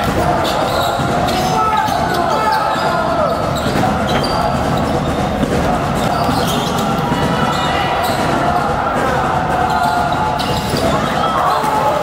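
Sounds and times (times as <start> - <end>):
din of voices: 0.0 - 12.0.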